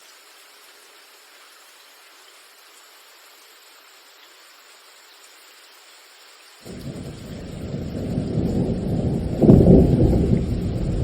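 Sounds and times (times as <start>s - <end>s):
light rain hiss: 0.0s - 11.0s.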